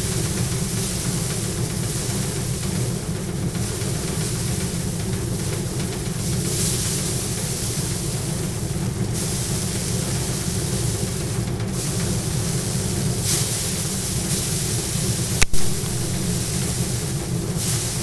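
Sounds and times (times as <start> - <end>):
straw hissing against drum: 0.0 - 18.0
threshing machine humming: 0.0 - 18.0.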